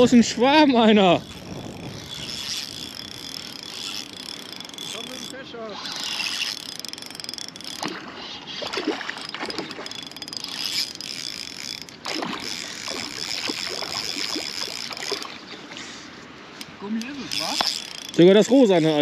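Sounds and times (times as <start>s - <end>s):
fishing reel gears whirring: 0.0s - 15.5s, 16.5s - 19.0s.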